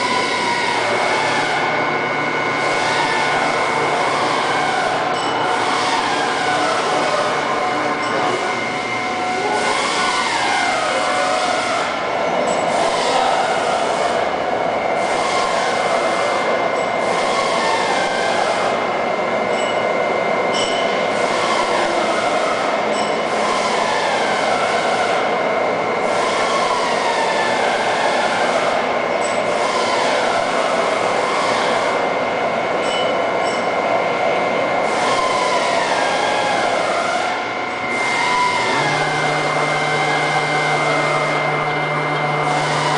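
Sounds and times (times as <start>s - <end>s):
gliding machine tones: 0.0s - 26.2s, 31.4s - 42.9s
boring mill running with whine: 0.0s - 42.9s.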